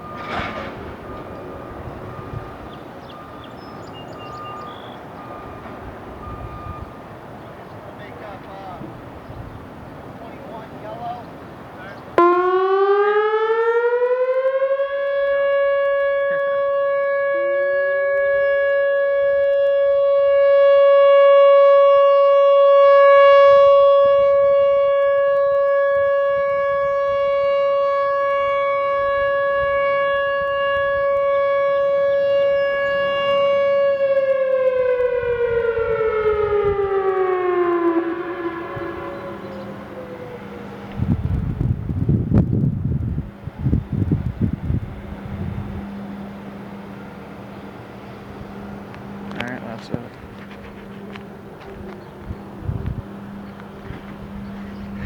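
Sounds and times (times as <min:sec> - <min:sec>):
warning siren: 0:00.0 - 0:55.0.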